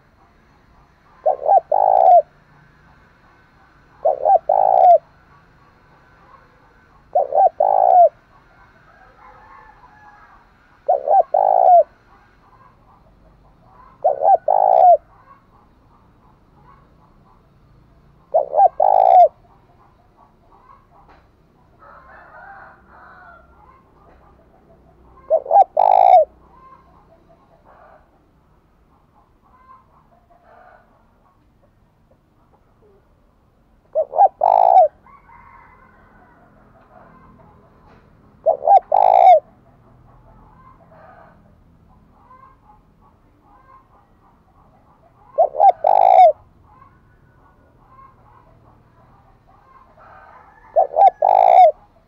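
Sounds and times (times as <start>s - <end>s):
dove cooing: 0.0s - 28.3s, 28.9s - 33.2s, 33.8s - 41.4s, 42.2s - 52.0s.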